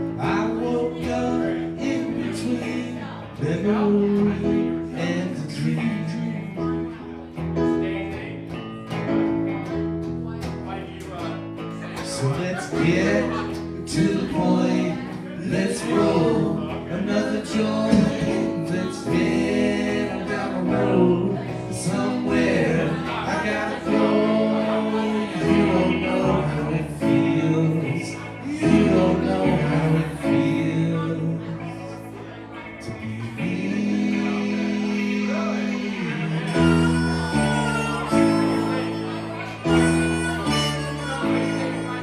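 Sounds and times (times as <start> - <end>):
men singing: 0.0 - 7.3, 11.7 - 42.0
live band playing: 0.0 - 42.0.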